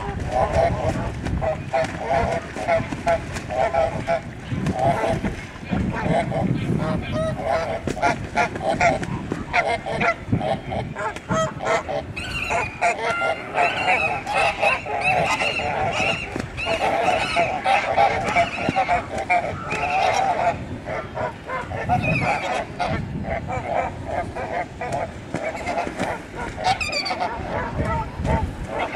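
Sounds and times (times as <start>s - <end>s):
geese honking: 0.0s - 28.9s.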